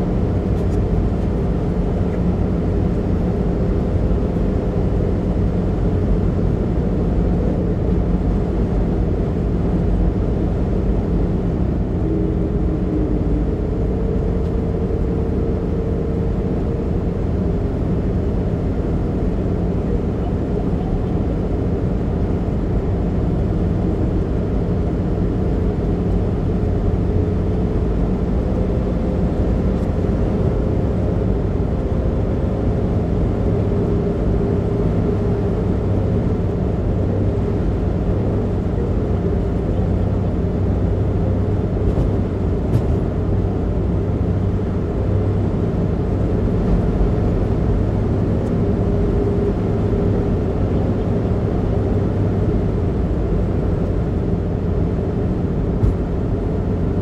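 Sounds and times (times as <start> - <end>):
faint steady whine: 0.0 - 57.0
tyre and engine drone: 0.0 - 57.0.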